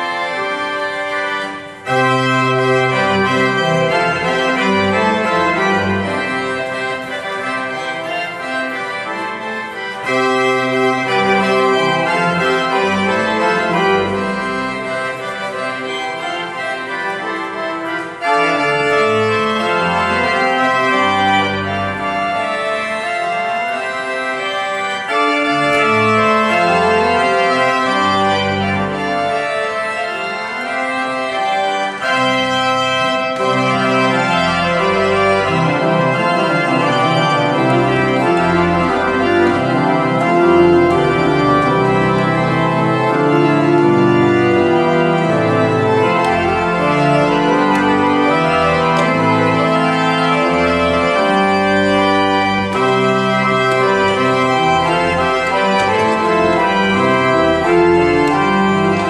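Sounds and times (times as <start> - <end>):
pipe organ chords: 0.0 - 59.0.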